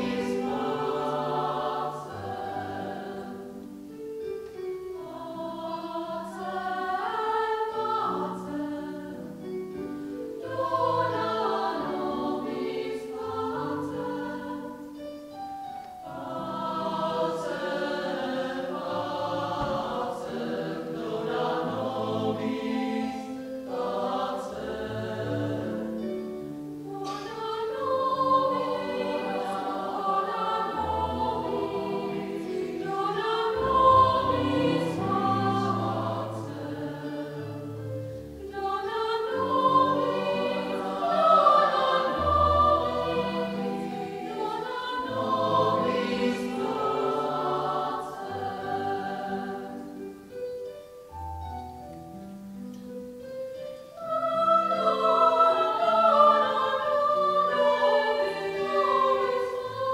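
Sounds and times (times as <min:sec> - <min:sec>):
mixed choir singing: 0:00.0 - 0:50.4, 0:53.8 - 0:59.9.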